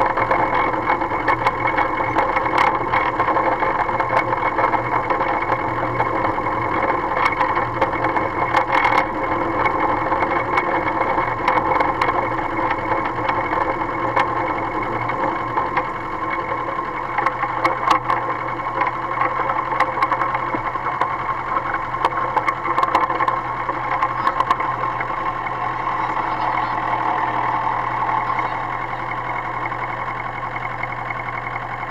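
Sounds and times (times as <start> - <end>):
rail tractor engine running: 0.0 - 31.9
sharp clicks and rattles: 0.0 - 31.9.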